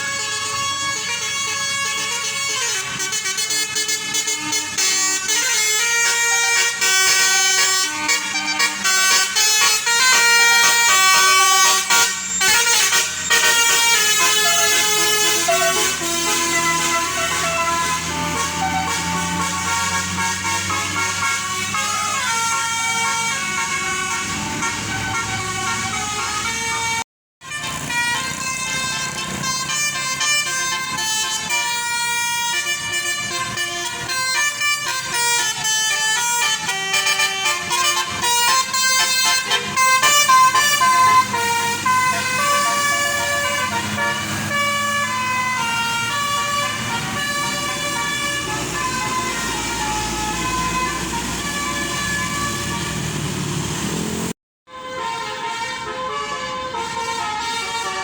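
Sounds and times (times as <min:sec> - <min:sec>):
bus horn playing tunes: 0:00.0 - 0:58.0.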